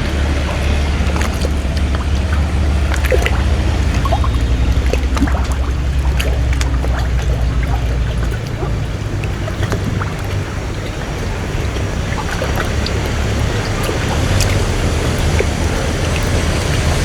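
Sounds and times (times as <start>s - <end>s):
boat engine droning: 0.0s - 17.0s
water rushing and splashing: 0.0s - 17.0s.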